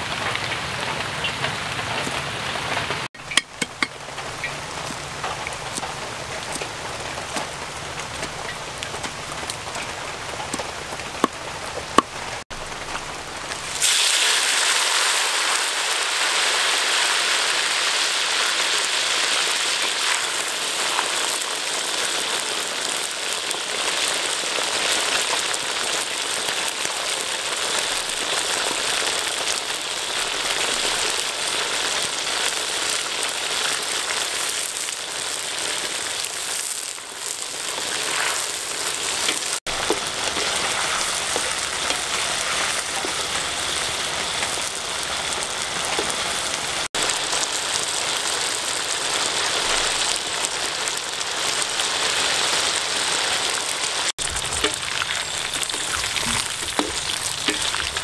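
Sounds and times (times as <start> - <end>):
deep-frying sizzle in hot oil: 0.0 - 58.0.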